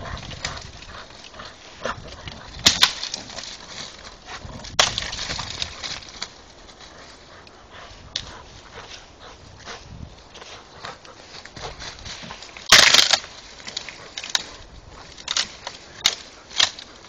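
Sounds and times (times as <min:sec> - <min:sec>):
dogs scuffling in dry leaves: 0:00.0 - 0:17.0.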